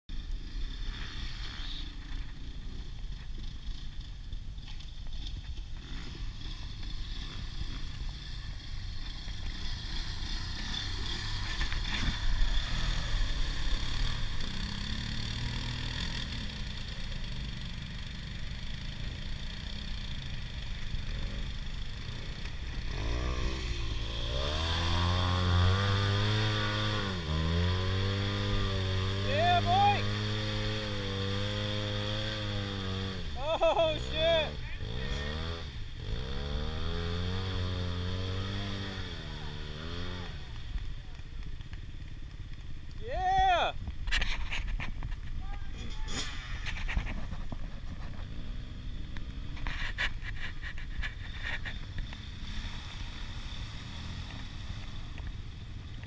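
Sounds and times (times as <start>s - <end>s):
vehicle engine running and revving: 0.1s - 42.1s, 44.1s - 56.0s.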